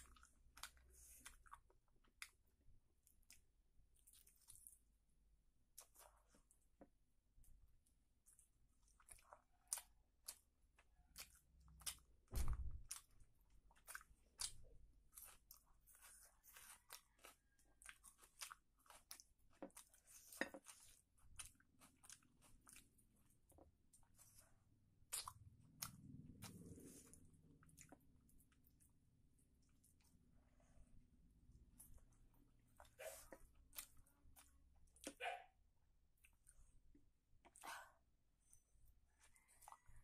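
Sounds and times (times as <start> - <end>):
chewing and biting: 0.0 - 4.9, 8.2 - 30.4, 31.6 - 35.2, 38.4 - 40.0.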